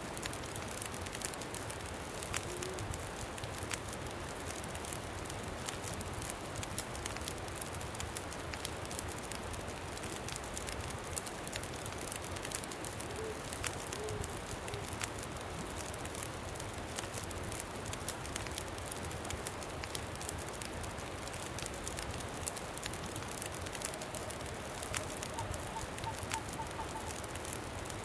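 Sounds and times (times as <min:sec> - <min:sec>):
campfire crackling and popping: 0:00.1 - 0:28.0.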